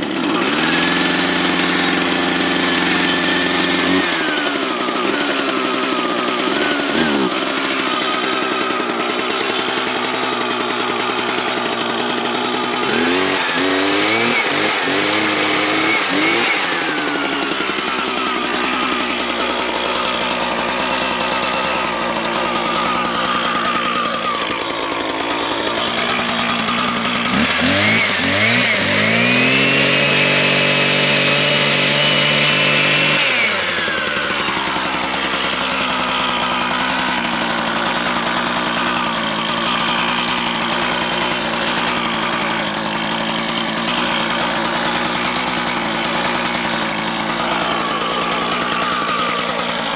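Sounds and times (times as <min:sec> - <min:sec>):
small engine revving: 0:00.0 - 0:49.9.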